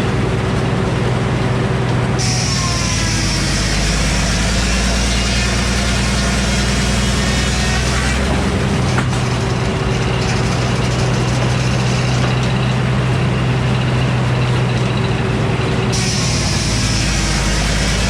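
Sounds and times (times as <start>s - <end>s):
engine droning: 0.0s - 18.0s
sawmill whine and hiss: 0.0s - 18.0s.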